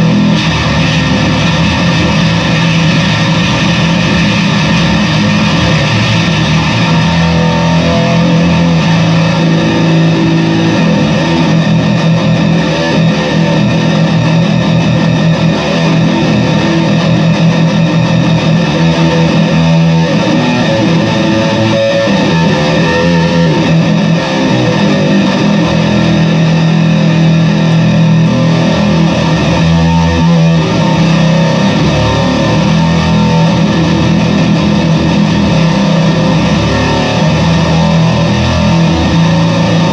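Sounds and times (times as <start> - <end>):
distorted fuzz bass guitar: 0.0 - 39.9.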